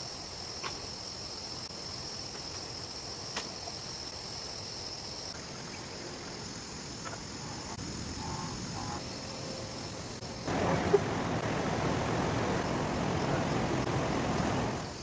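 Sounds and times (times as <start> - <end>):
constant hiss: 0.0 - 15.0
high-pitched insect chorus: 0.0 - 15.0.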